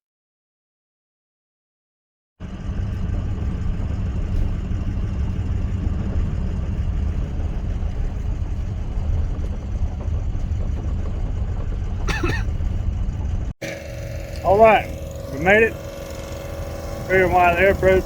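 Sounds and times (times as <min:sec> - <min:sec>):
road noise: 0:02.4 - 0:18.0
truck engine rumble: 0:02.4 - 0:18.0.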